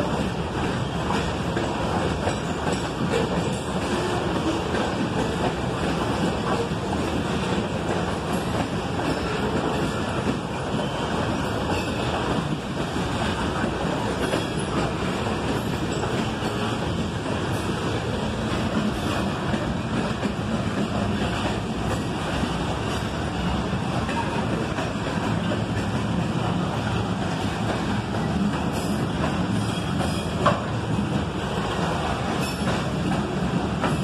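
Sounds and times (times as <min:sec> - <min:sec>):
train wheels on rails: 0:00.0 - 0:34.0.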